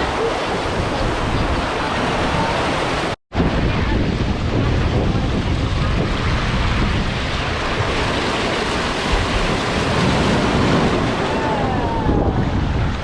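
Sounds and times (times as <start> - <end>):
water rushing past a boat hull: 0.0 - 13.0
wind buffeting the microphone: 0.0 - 13.0.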